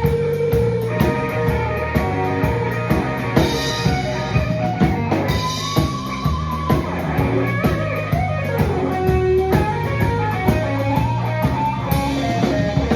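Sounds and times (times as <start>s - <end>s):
electric guitar rock lead: 0.0s - 12.9s
steady drum beat: 0.0s - 12.9s.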